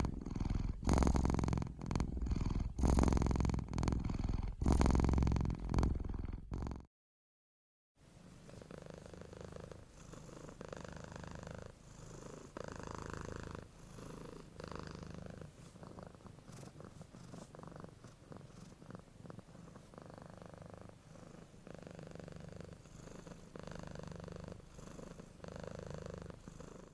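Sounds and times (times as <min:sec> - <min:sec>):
cat purring: 0:00.0 - 0:06.9, 0:08.1 - 0:26.9.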